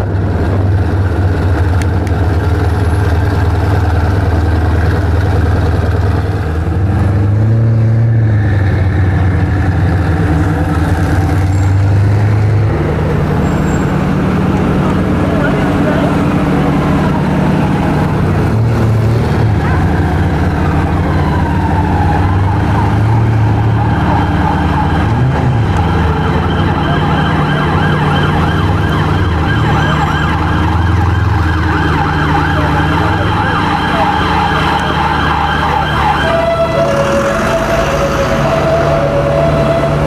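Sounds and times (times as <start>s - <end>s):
car engine idling: 0.0s - 7.6s, 12.7s - 37.2s
emergency siren wailing: 0.0s - 40.0s.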